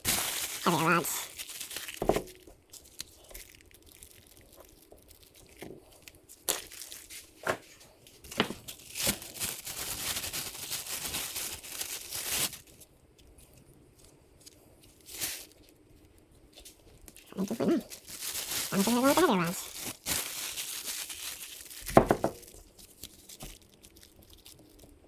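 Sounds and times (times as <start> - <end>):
rustling and crinkling: 0.0 - 25.0.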